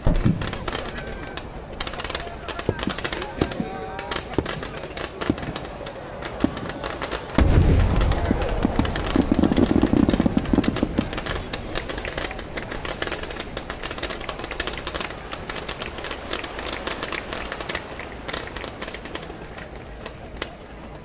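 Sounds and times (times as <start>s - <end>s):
deep firework boom: 0.0s - 5.6s, 6.4s - 19.3s
firework crackling pops: 0.0s - 21.0s.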